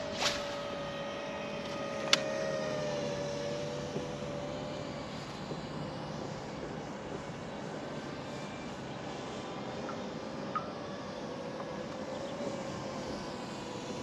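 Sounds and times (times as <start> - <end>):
motor drone: 0.0 - 14.0.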